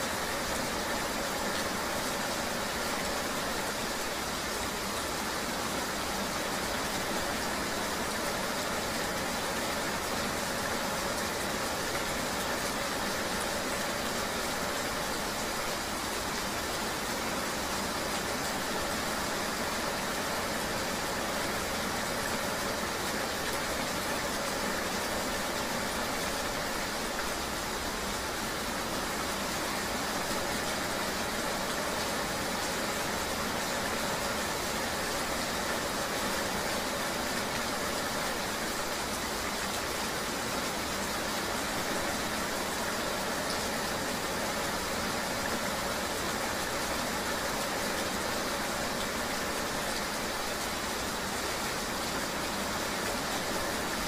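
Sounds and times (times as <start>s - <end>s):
rain and road hiss: 0.0s - 54.0s.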